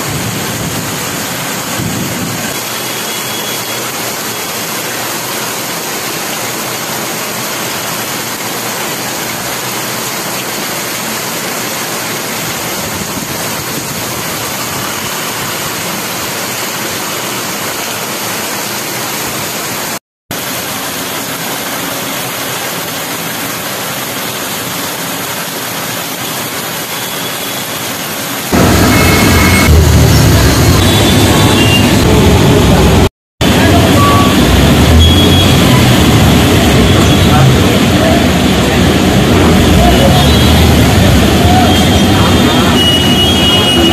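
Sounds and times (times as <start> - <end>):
heavy rain splashing into water: 0.0 - 43.9.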